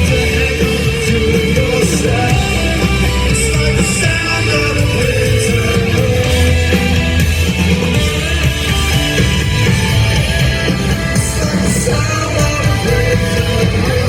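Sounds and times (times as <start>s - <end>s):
live rock band instrumental: 0.0s - 14.0s.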